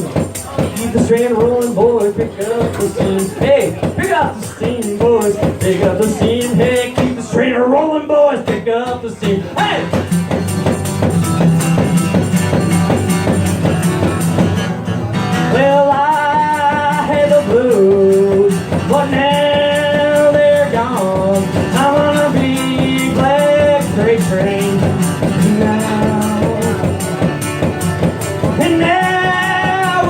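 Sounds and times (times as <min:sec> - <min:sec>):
live blues band playing: 0:00.0 - 0:30.0.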